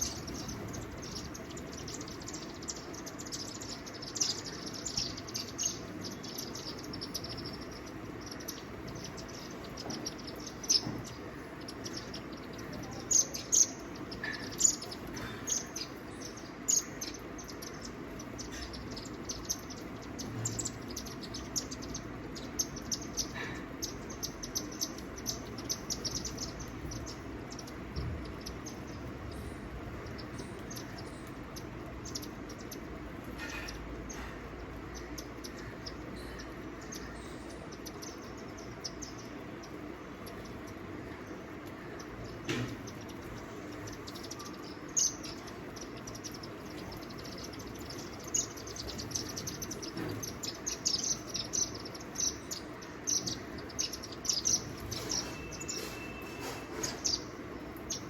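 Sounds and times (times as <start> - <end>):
low background hum: 0.0 - 58.0
small birds chirping: 0.0 - 58.0.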